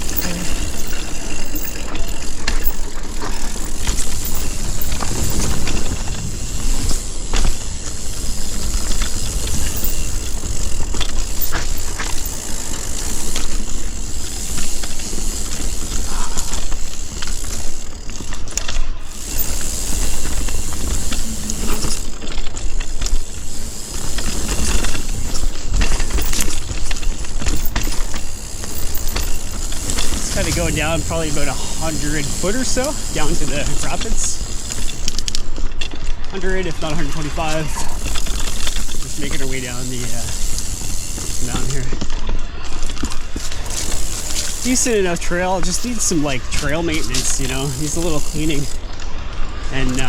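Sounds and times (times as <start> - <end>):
bike chain and frame rattling: 0.0 - 50.0
bike tyres on dirt and stones: 0.0 - 50.0.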